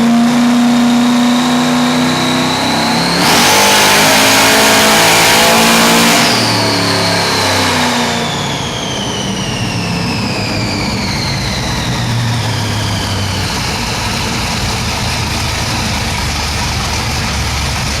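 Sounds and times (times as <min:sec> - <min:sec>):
high whine falling in pitch: 0:00.0 - 0:17.6
engine at full throttle then lumpy idle: 0:00.0 - 0:18.0.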